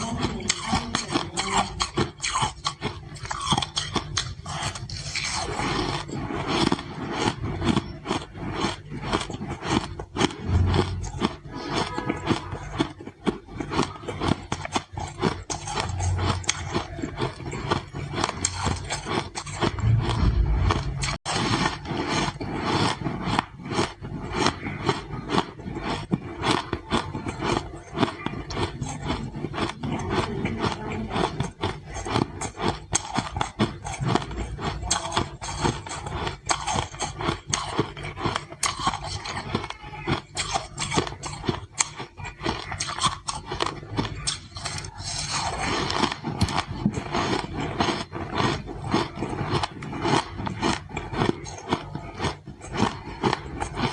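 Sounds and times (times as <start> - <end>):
person chewing ice: 0.0 - 53.9.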